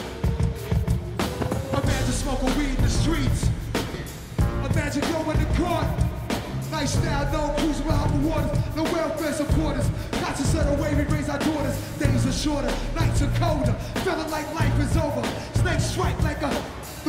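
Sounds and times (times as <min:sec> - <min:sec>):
heavy bass and drum beat: 0:00.0 - 0:17.0
live hip-hop band: 0:00.0 - 0:17.0
person rapping: 0:01.5 - 0:17.0.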